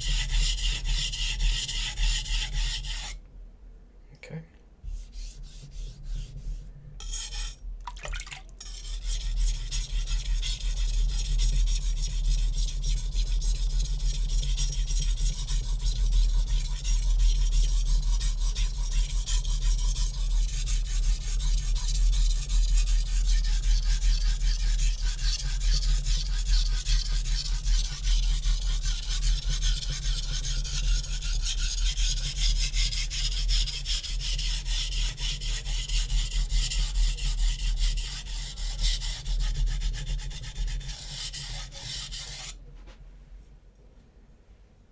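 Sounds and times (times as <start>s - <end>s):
knife scraping on whetstone: 0.0s - 3.2s, 4.9s - 7.6s, 8.6s - 42.6s.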